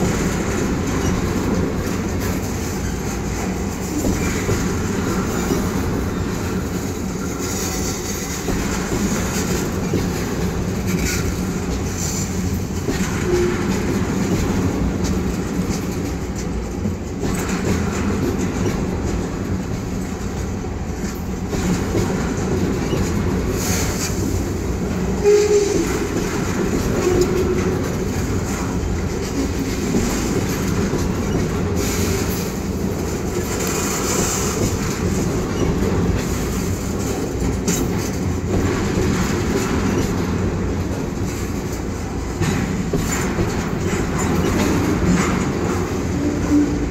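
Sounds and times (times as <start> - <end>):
train wheels rumbling: 0.0 - 46.9
wheels clacking over rail joints: 0.0 - 46.9.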